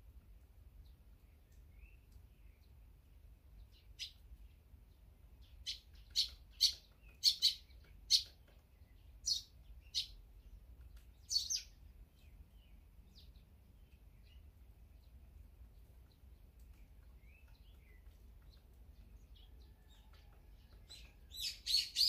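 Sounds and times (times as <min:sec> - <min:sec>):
bird chirping: 0:00.7 - 0:22.0.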